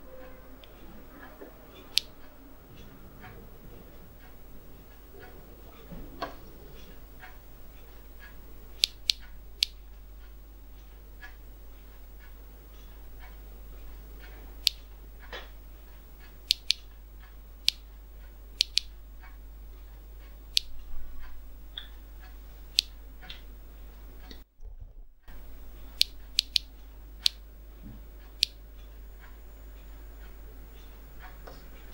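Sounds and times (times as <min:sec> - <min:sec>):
steady low hum: 0:00.0 - 0:31.9
geiger counter clicking: 0:00.1 - 0:24.4, 0:25.3 - 0:31.9.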